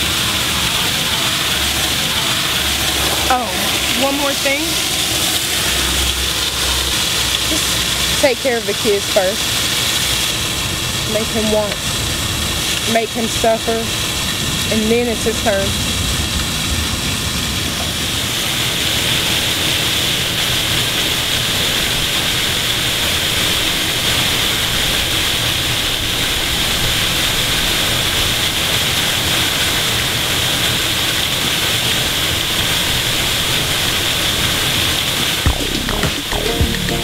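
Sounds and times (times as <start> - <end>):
fountain water splashing: 0.0 - 37.0.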